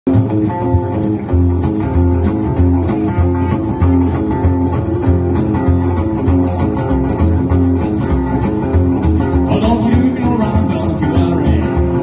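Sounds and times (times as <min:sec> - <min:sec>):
electric and acoustic guitars: 0:00.1 - 0:12.0
upright double bass: 0:00.1 - 0:12.0.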